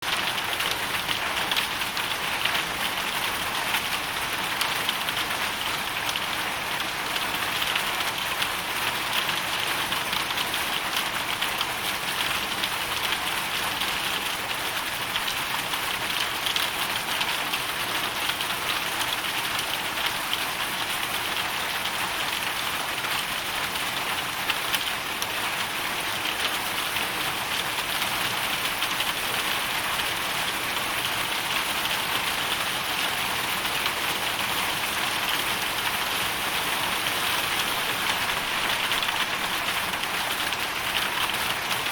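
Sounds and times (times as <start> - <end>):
hail and rain pattering: 0.0 - 41.9.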